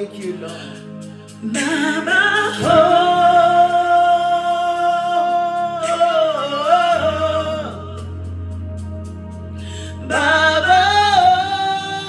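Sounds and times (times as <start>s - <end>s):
sustained instrumental backing: 0.0s - 12.0s.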